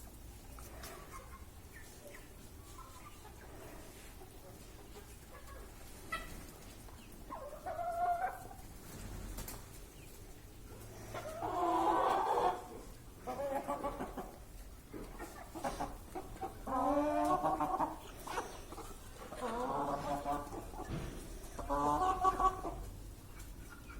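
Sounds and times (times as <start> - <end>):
chickens calling: 0.0 - 23.9.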